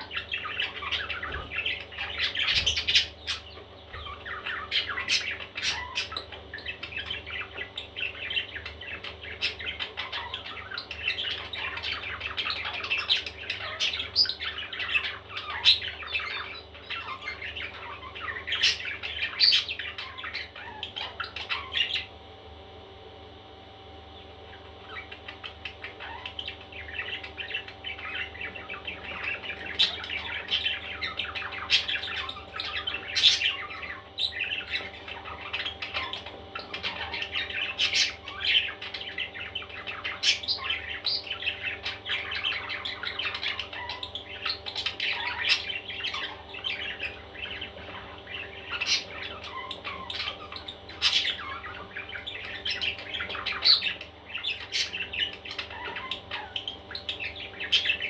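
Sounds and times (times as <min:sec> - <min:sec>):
baby parrots chirping and squawking: 0:00.0 - 0:22.1, 0:24.4 - 0:58.0.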